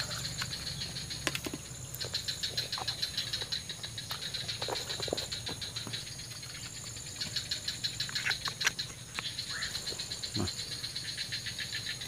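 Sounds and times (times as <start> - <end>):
high-pitched insect whine: 0.0 - 12.0
insects pulsed chirping: 0.0 - 12.0.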